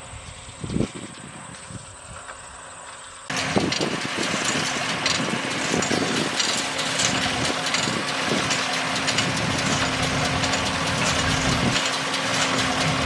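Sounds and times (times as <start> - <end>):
hay baler running: 0.0 - 13.0
tractor engine: 0.0 - 13.0.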